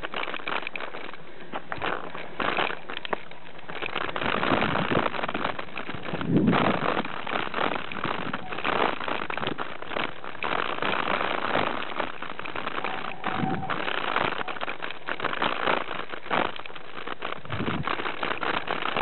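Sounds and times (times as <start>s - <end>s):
bike tyres rattling over trail: 0.0s - 19.0s.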